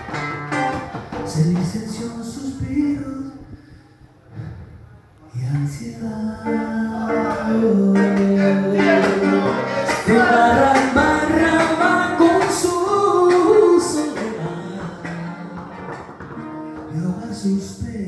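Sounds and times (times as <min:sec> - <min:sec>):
acoustic guitar: 0:00.0 - 0:04.8, 0:05.4 - 0:18.0
man singing: 0:01.2 - 0:03.6, 0:05.3 - 0:16.2, 0:16.8 - 0:18.0.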